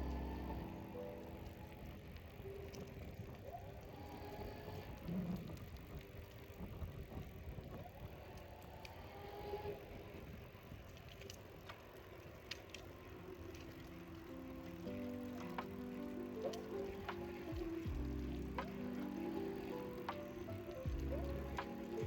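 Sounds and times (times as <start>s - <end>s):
bike mechanical clicks: 0.0s - 22.0s
wind and tyre rumble: 0.0s - 22.0s.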